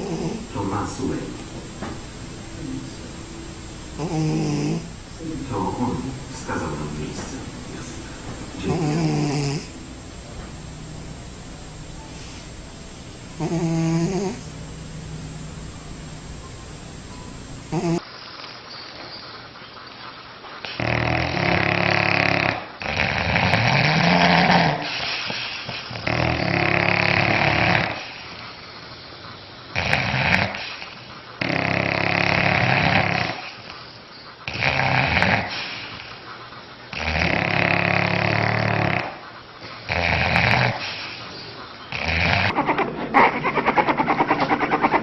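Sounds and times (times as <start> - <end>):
animal snoring loudly: 0.0 - 16.5, 17.6 - 18.0, 20.6 - 28.6, 29.7 - 33.8, 34.5 - 36.2, 36.9 - 45.0.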